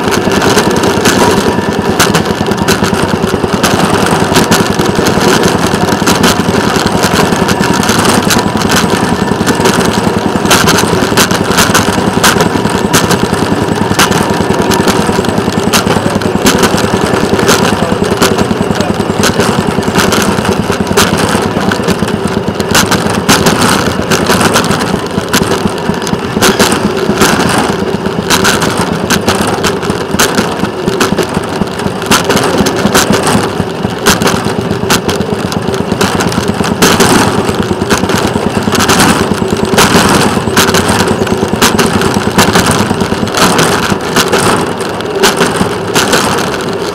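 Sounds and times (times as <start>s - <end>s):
rail vehicle engine running: 0.0s - 46.9s
sharp knocks and clicks: 0.0s - 46.9s.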